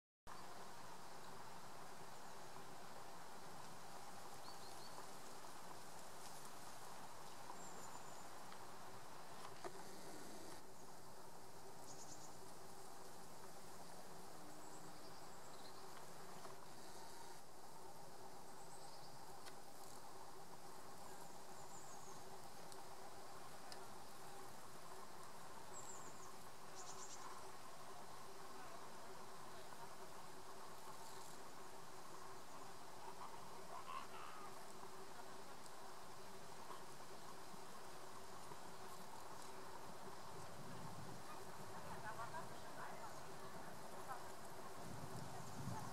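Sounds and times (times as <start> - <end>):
steady outdoor hiss: 0.3 - 45.9.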